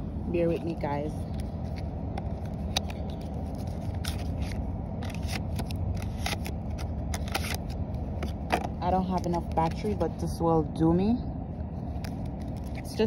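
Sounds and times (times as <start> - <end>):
low rumble: 0.0 - 13.0
handling rustles and clicks: 0.4 - 10.1, 11.9 - 13.0.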